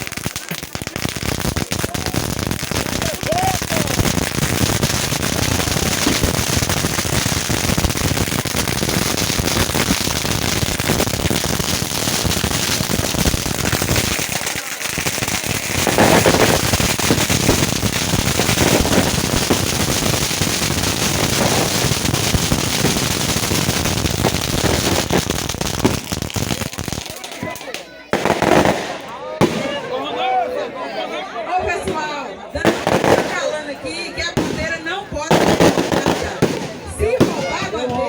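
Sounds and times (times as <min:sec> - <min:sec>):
firecrackers crackling: 0:00.0 - 0:29.9, 0:31.8 - 0:38.0.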